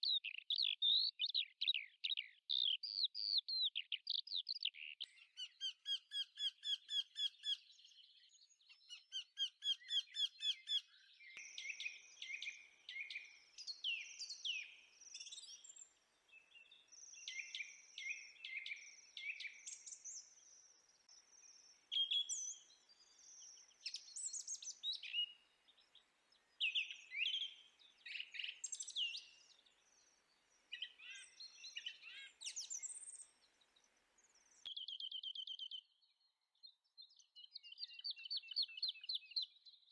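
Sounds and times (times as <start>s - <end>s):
birds singing trills and chirps: 0.0s - 39.9s.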